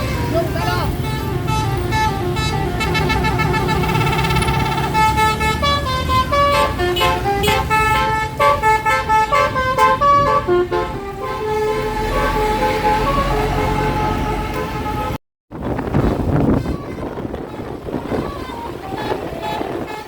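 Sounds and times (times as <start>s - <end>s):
bus engine rumble: 0.0s - 20.0s
musical air horn tune: 1.0s - 15.2s, 16.5s - 20.0s.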